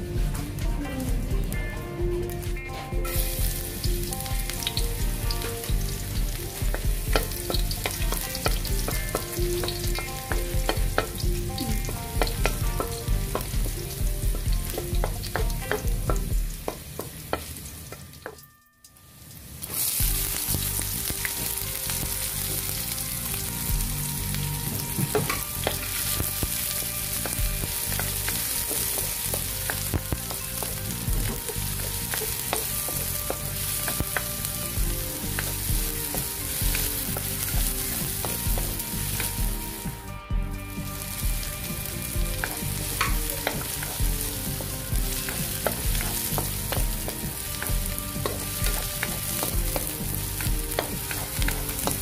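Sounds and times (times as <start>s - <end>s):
garlic sizzling in hot oil: 0.0s - 52.0s.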